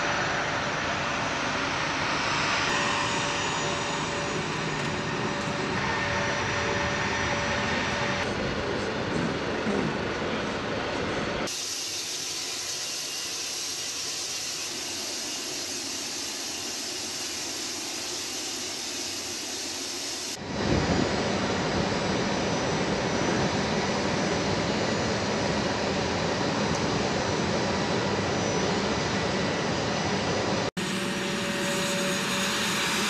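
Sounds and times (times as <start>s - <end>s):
jet engine running: 0.0s - 33.0s.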